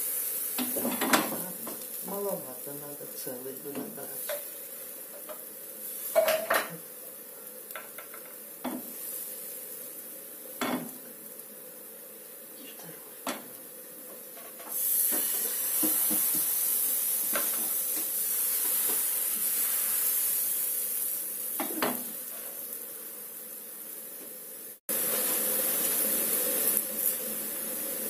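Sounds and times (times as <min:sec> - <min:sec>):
batter sizzling in frying pan: 0:00.0 - 0:28.0.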